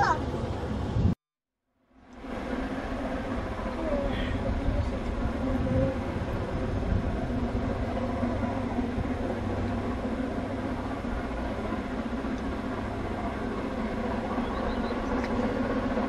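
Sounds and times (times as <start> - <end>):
distant train rumbling: 1.9 - 16.0.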